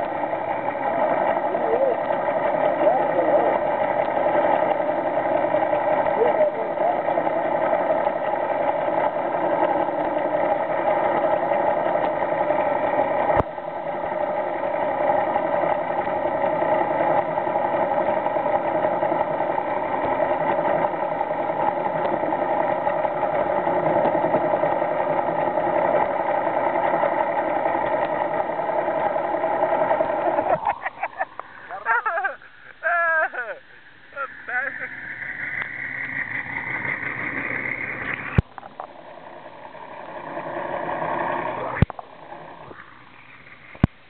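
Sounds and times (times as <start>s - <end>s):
boat engine droning underwater: 0.0s - 44.0s
steady tones: 0.0s - 44.0s.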